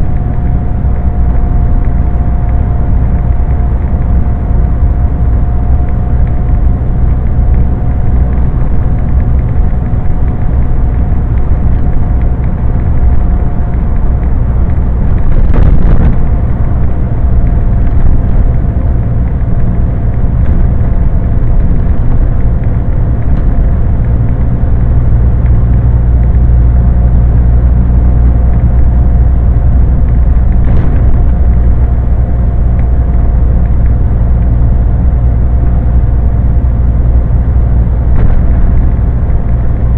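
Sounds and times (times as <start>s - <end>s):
lorry engine and road drone: 0.0s - 39.9s
thin steady whine: 0.0s - 39.9s.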